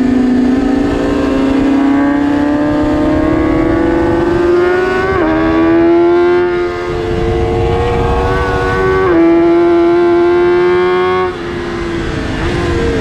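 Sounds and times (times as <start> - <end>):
motorcycle engine accelerating hard: 0.0 - 13.0
wind noise: 0.0 - 13.0.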